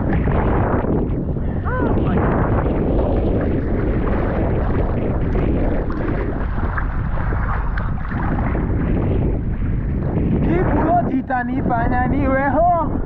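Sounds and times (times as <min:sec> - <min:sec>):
sea water rumbling: 0:00.0 - 0:13.0
wind buffeting microphone: 0:00.0 - 0:13.0.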